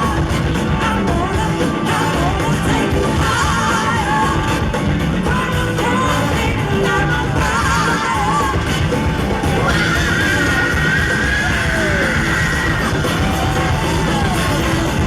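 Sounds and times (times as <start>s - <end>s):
live rock band playing: 0.0s - 15.0s
person singing with vibrato: 0.0s - 15.0s.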